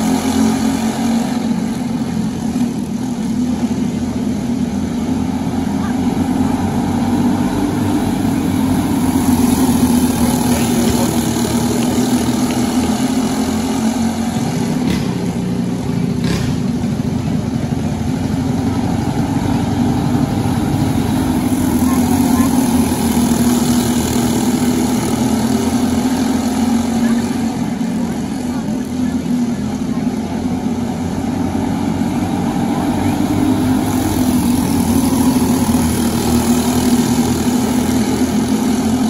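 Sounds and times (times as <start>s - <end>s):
racing kart engines buzzing: 0.0s - 39.0s.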